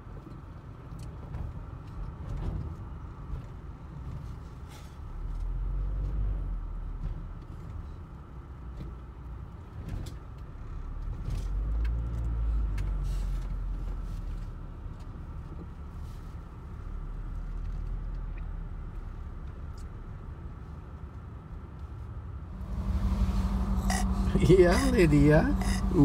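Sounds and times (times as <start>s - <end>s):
vehicle engine and tyres rumbling: 0.0s - 26.0s.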